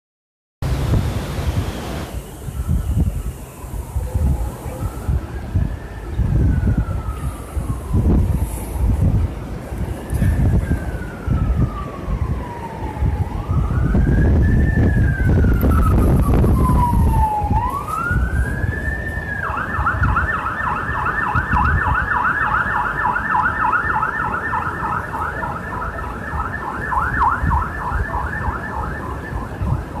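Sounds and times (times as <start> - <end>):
emergency vehicle siren: 2.0 - 30.0.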